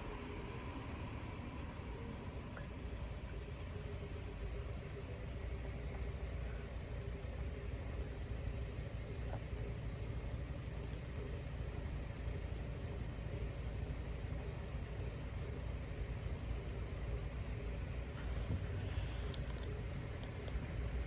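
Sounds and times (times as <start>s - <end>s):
faint steady hum: 0.0s - 21.0s
vehicle engines idling: 0.0s - 21.0s.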